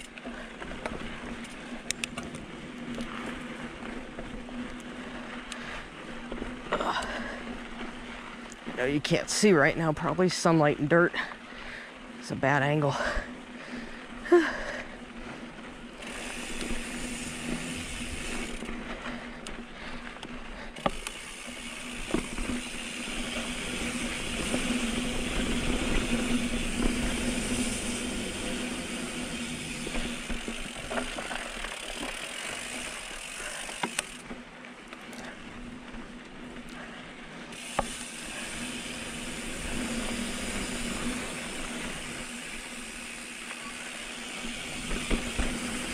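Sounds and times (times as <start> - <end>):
bike rattling: 0.0 - 45.9
bike tyres on rough trail: 0.0 - 45.9.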